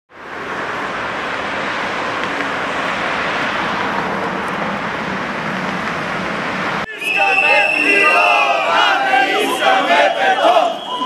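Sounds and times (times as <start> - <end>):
traffic hiss on wet street: 0.1 - 11.0.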